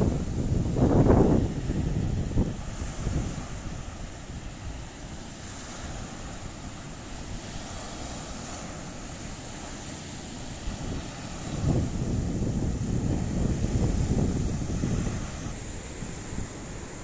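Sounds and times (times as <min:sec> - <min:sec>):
surf breaking on sandy beach: 0:00.0 - 0:17.0
wind rumbling on microphone: 0:00.0 - 0:17.0.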